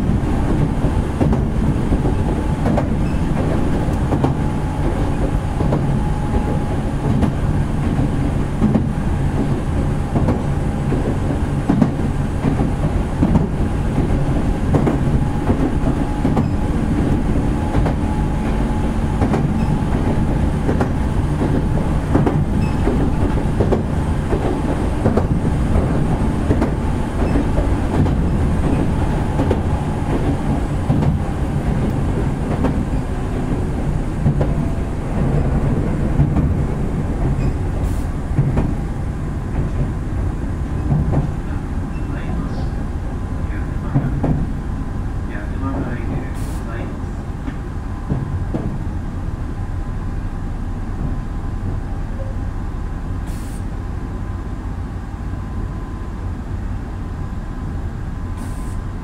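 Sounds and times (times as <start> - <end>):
clickety-clack over rail joints: 0.0 - 52.5
train wheels rumbling on rail: 0.0 - 59.0.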